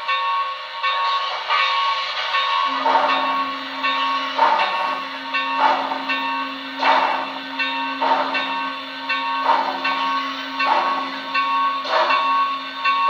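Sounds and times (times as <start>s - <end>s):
model steam locomotive chuffs: 0.0s - 13.0s.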